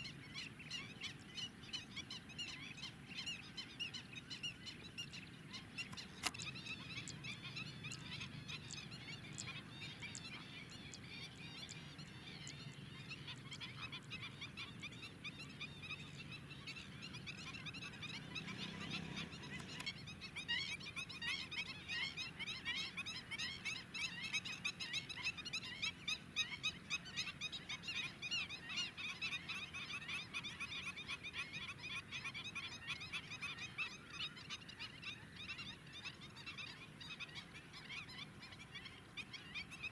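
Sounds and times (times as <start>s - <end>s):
flamingos honking and gabbling: 0.0s - 39.9s.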